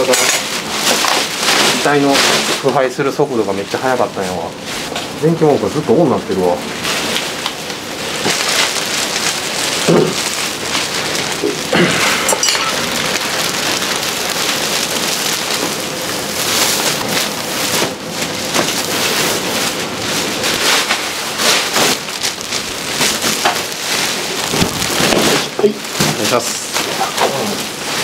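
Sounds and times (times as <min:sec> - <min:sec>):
plastic bags crinkling: 0:00.0 - 0:28.0.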